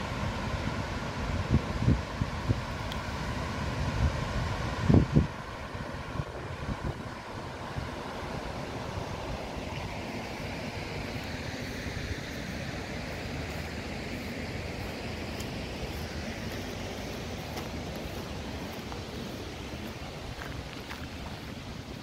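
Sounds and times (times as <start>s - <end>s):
wind buffeting microphone: 3.8s - 22.0s.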